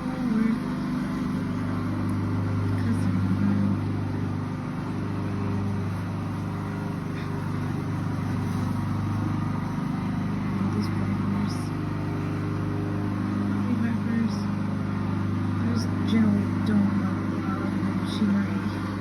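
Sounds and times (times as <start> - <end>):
lawnmower engine running: 0.0 - 19.0.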